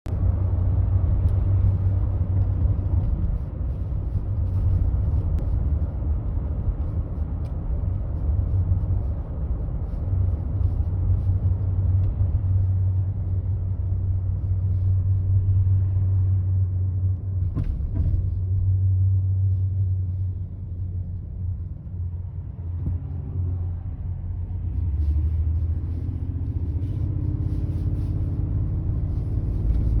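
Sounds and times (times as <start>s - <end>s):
truck driving slowly: 0.1s - 30.0s
wheel rubbing and whirring: 0.2s - 30.0s.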